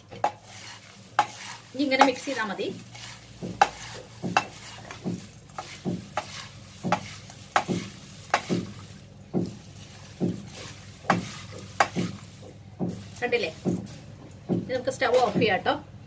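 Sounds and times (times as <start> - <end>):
spoon scraping dry food in pan: 0.0 - 8.7, 9.8 - 14.1.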